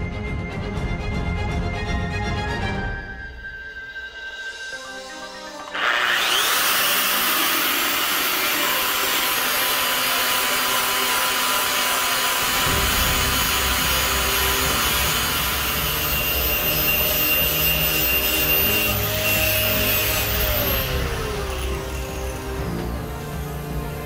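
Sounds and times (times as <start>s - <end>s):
angle grinder grinding steel: 3.8s - 24.0s.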